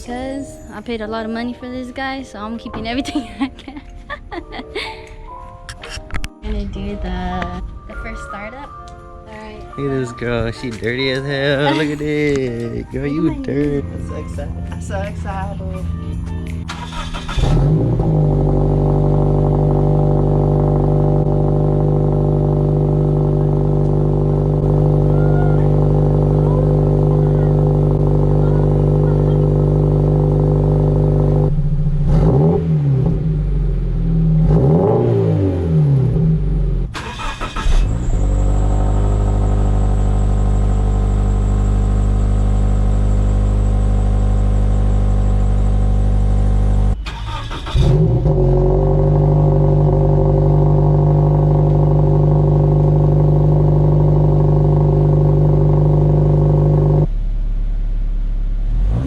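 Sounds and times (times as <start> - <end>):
car engine idling and revving: 9.8 - 59.0.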